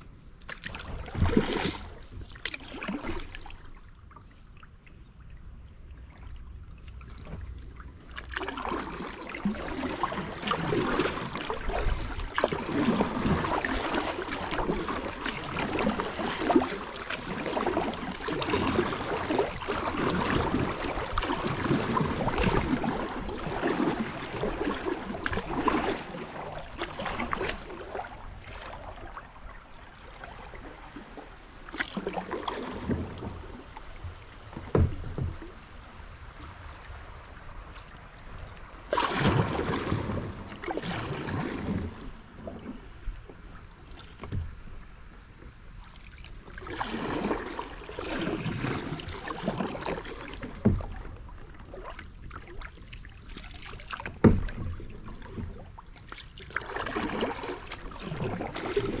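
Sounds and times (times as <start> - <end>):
water splashing around kayak: 0.0 - 59.0.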